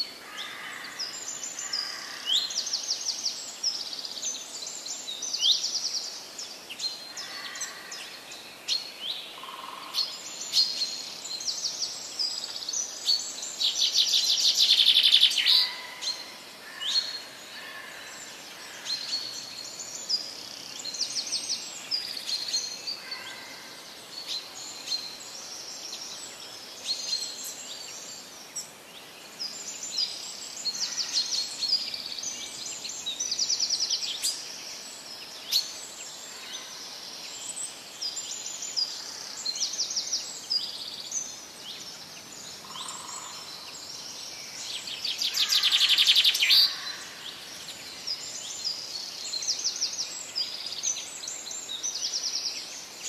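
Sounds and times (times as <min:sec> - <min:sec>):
birds chirping and singing: 0:00.3 - 0:53.0.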